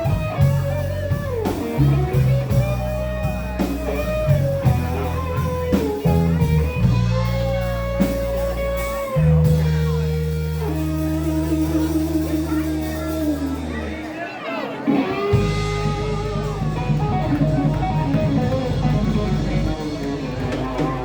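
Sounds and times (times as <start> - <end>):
blues-rock band playing: 0.0 - 21.0
lead guitar bending notes: 0.0 - 21.0.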